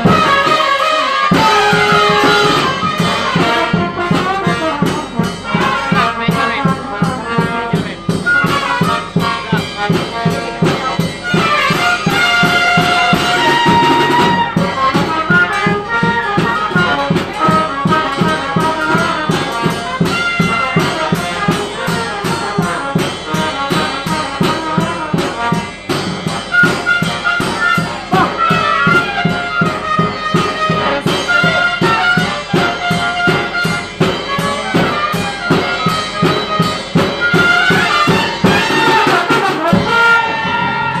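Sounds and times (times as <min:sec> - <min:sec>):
brass melody: 0:00.0 - 0:41.0
marching band drums: 0:00.0 - 0:41.0.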